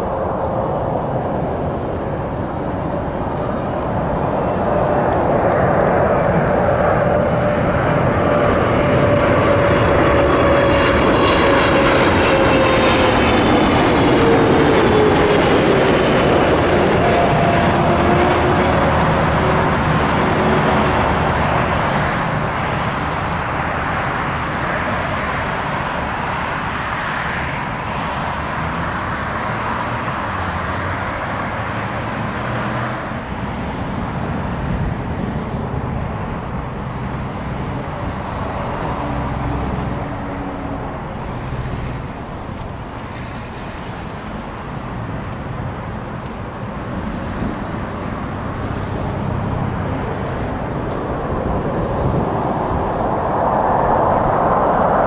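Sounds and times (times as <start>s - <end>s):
jet airliners landing: 0.0s - 55.0s
road traffic: 0.0s - 55.0s.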